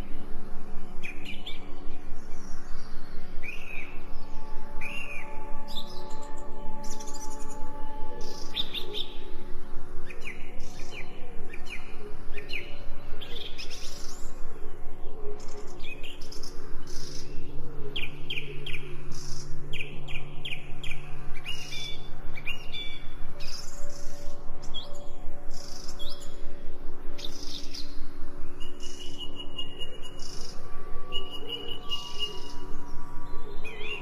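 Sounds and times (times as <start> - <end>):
ambient music drone: 0.0 - 34.0
songbirds chirping: 0.0 - 34.0.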